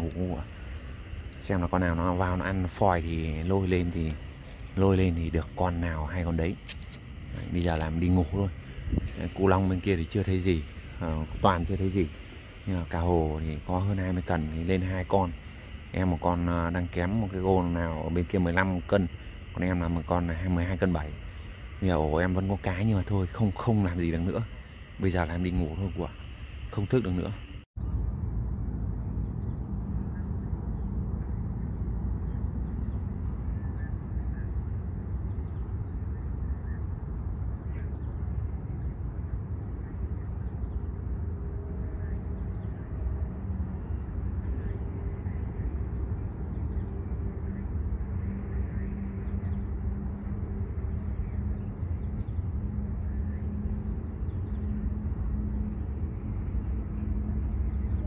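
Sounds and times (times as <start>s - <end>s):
birds chirping: 0.0s - 58.0s
faint hum: 0.0s - 58.0s
low outdoor rumble: 0.0s - 58.0s.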